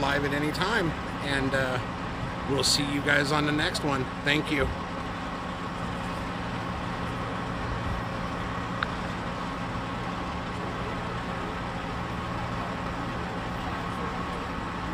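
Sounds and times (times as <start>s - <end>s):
street noise: 0.0s - 14.9s
vehicle engine idling: 0.0s - 14.9s.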